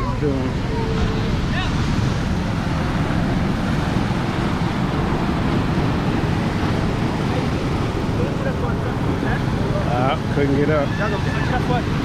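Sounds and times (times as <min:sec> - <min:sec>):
ocean surf rushing: 0:00.0 - 0:12.0
wind buffeting microphone: 0:00.0 - 0:12.0.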